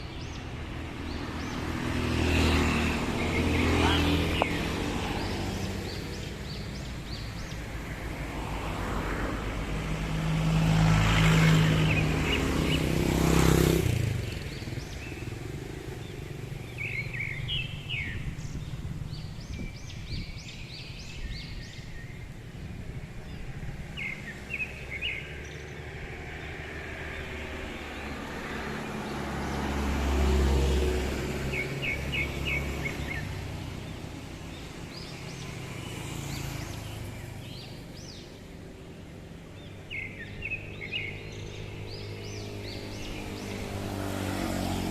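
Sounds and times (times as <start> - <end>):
outdoor background noise: 0.0 - 44.9
vehicles passing on road: 0.0 - 44.9.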